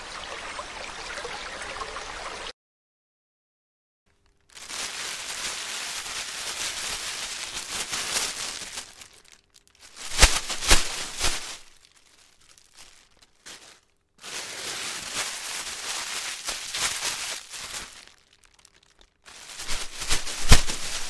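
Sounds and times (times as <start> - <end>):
plastic crinkling: 4.1 - 21.0.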